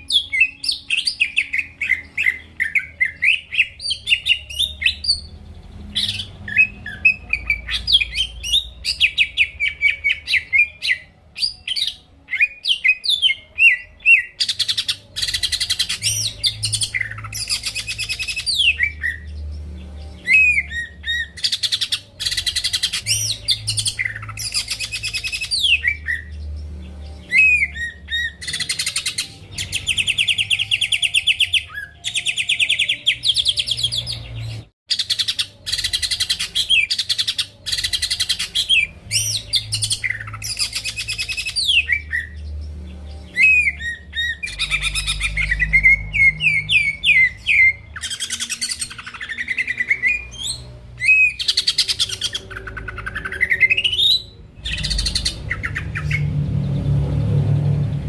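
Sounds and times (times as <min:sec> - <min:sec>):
bird song chirps and trills: 0:00.0 - 0:58.0.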